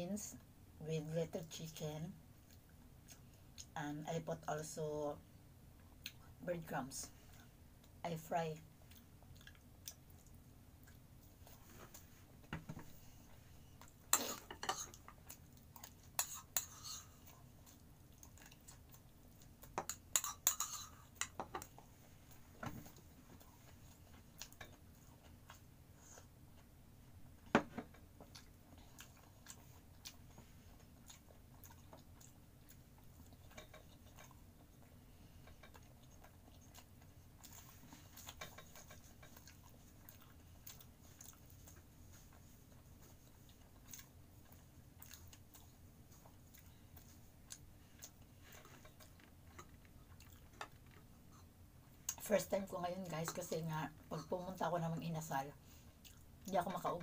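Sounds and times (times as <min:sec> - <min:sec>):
chewing fried food: 0:02.4 - 0:03.8, 0:08.6 - 0:52.3, 0:55.7 - 0:56.9.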